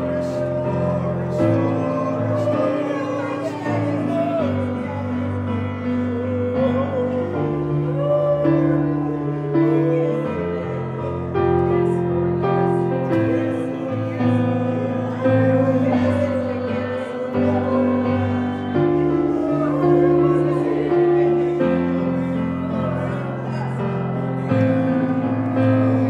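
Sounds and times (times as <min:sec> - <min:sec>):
keyboard sustained chords: 0:00.0 - 0:26.0
person singing: 0:00.0 - 0:26.0.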